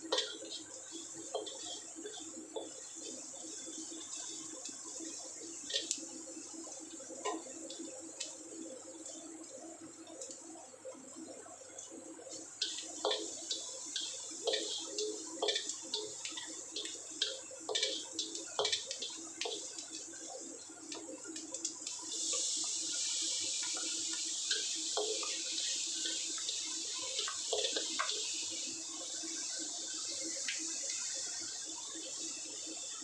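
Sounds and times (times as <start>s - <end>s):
vegetables sizzling in hot oil: 0.0s - 33.0s.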